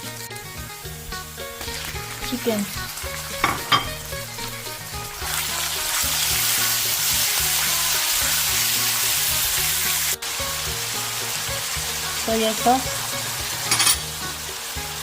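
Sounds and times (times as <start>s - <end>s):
background music: 0.0s - 15.0s
chicken sizzling in hot oil: 0.0s - 15.0s.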